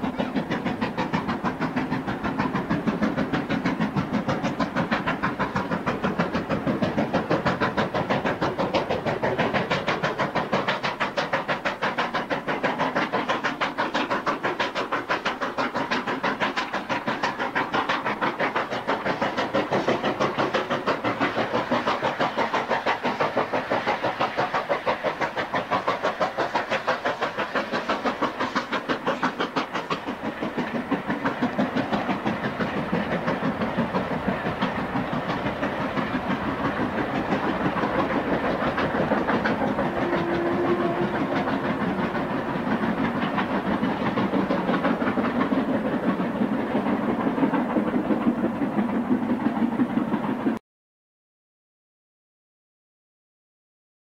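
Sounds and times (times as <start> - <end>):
steam locomotive exhaust beats: 0.0 - 50.6.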